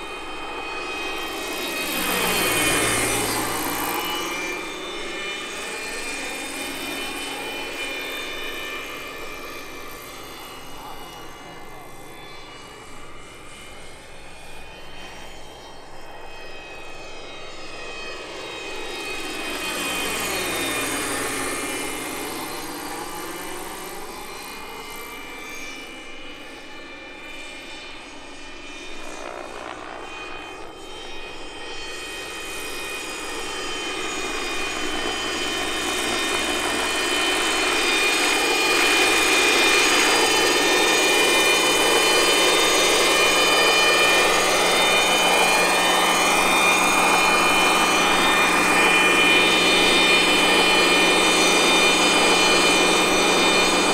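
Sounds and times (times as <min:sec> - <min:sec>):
model helicopter rotor noise: 0:00.0 - 0:53.9
whining imitation turbine: 0:00.0 - 0:53.9.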